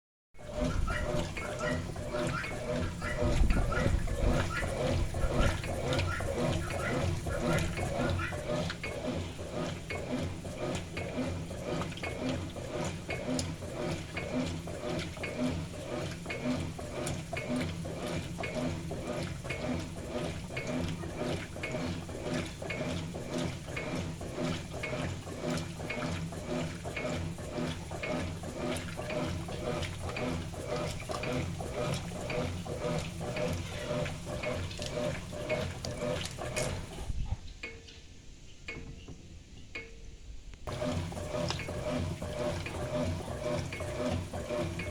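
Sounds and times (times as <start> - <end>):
water sloshing: 0.4 - 37.2, 40.7 - 44.9
washing machine agitator swishing: 0.4 - 37.5, 40.7 - 44.9.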